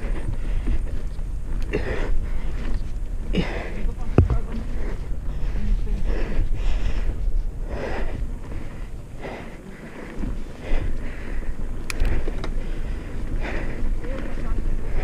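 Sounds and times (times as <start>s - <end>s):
mountain bike rolling on dirt: 0.0s - 15.0s
wind buffeting microphone: 0.0s - 15.0s.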